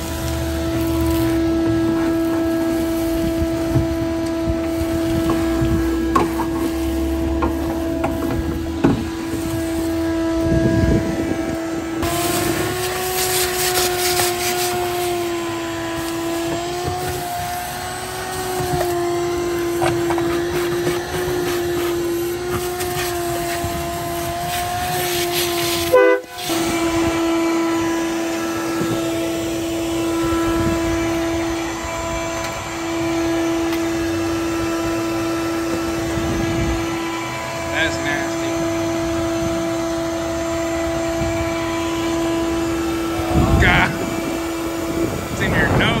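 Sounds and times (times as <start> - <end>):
shop vacuum whining: 0.0 - 46.0.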